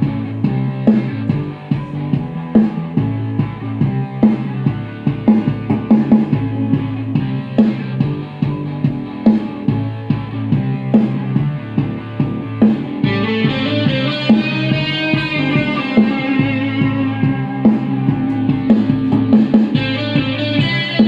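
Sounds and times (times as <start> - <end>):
drums and bass backing: 0.0 - 21.0
electric guitar playing rock groove: 0.0 - 21.0.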